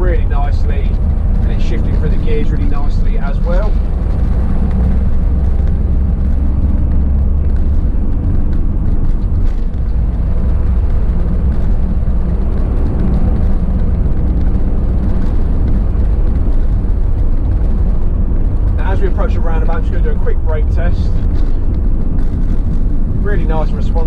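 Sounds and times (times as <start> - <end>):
diesel truck engine rumble: 0.0 - 24.0.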